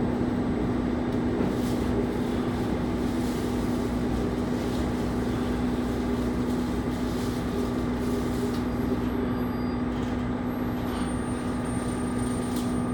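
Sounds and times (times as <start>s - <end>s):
diesel railcar engine drone: 0.0s - 12.9s
low hum and rumble: 0.0s - 12.9s.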